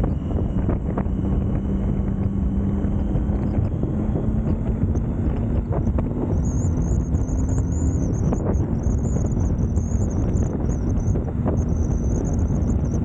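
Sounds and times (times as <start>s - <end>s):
motorcycle engine cruising: 0.0s - 13.0s
wind buffeting microphone: 0.0s - 13.0s.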